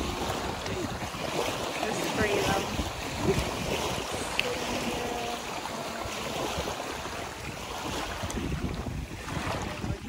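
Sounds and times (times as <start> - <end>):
waves washing onto pebbles: 0.0 - 10.0
wind buffeting microphone: 0.0 - 10.0.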